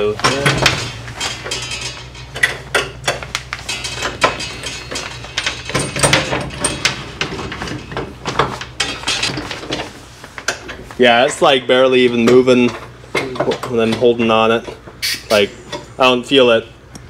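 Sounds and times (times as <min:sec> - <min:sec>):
metallic clanks and knocks: 0:00.0 - 0:16.0
steady low hum: 0:00.0 - 0:17.0.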